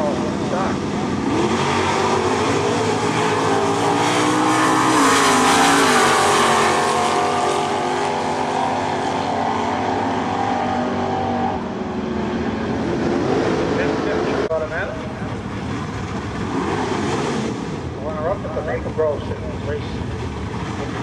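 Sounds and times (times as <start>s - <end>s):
drag car engines at full throttle: 0.0s - 21.0s.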